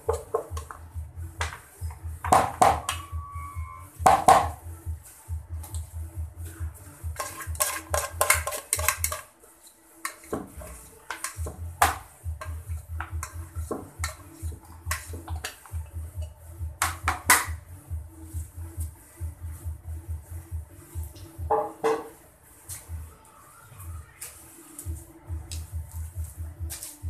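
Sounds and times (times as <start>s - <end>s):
background music with low beat: 0.0s - 27.0s.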